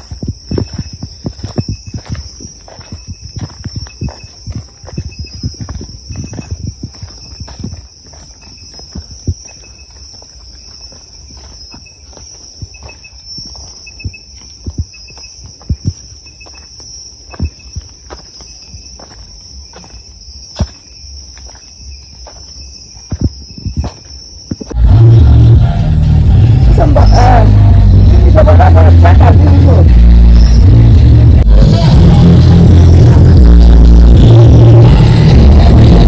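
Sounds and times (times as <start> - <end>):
insects chirring: 0.0 - 24.8, 25.6 - 31.5
pulsing insect chirp: 0.0 - 31.5.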